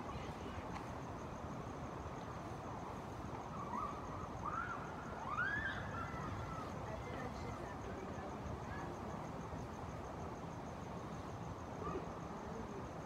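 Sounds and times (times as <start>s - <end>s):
distant traffic rumble: 0.0s - 13.0s.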